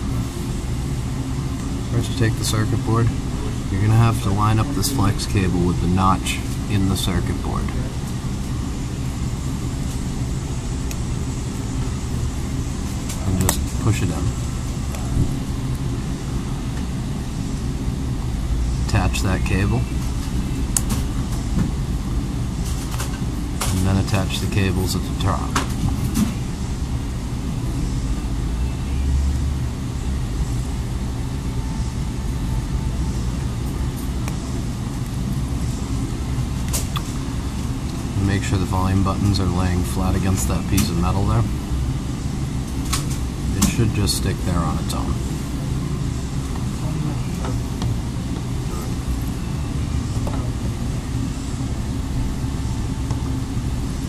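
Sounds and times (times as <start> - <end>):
low background rumble: 0.0 - 54.0.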